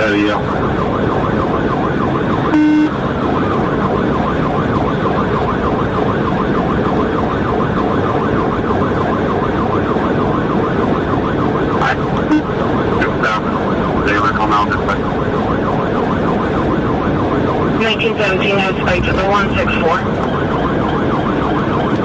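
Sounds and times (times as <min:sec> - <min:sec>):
car engine and road noise: 0:00.0 - 0:22.0
police siren yelping: 0:00.0 - 0:22.0.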